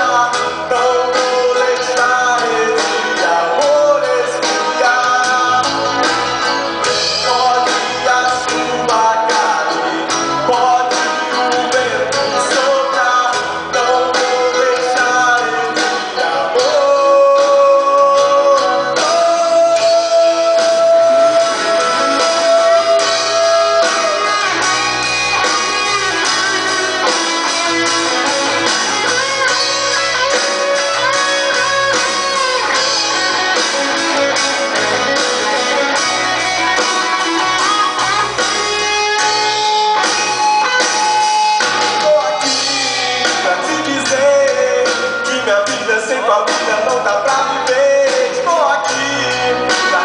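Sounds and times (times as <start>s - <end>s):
guitar with bending notes: 0.0s - 50.0s
live band playing: 0.0s - 50.0s.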